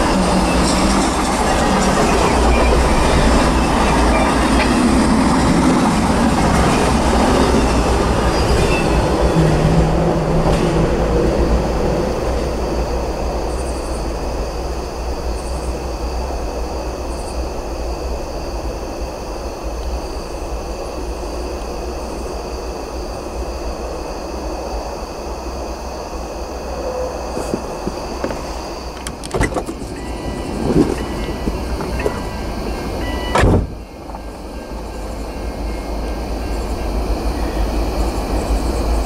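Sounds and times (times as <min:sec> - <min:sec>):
freight train rolling over rails: 0:00.0 - 0:39.0
steady background noise: 0:00.0 - 0:39.0.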